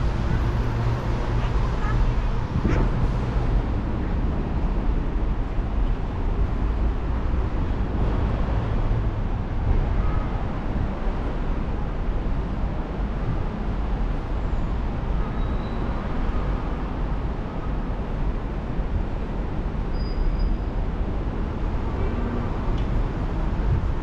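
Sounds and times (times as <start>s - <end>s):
low city rumble: 0.0s - 24.0s.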